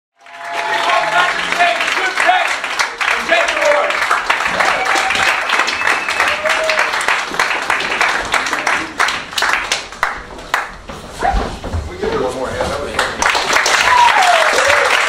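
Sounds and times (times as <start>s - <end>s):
audience applauding: 0.2s - 10.7s, 12.9s - 15.0s.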